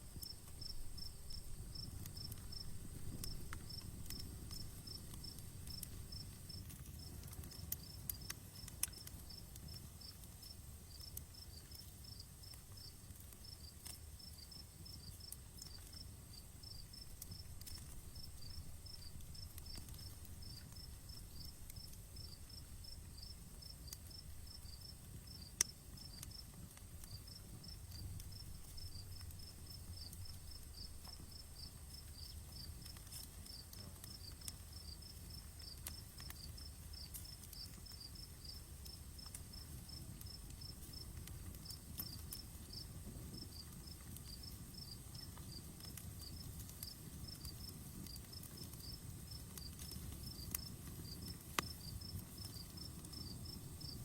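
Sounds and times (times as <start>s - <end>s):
insects chirping: 0.0s - 10.2s, 14.2s - 26.3s, 27.0s - 54.0s
campfire crackling: 0.0s - 54.0s.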